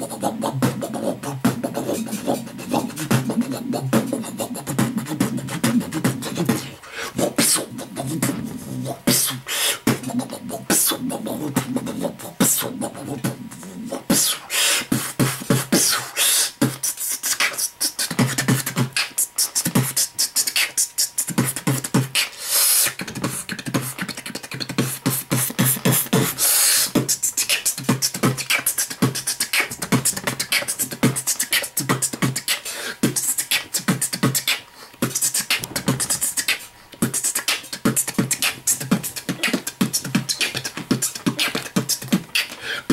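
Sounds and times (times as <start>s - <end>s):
beatboxing into microphone: 0.0s - 42.9s.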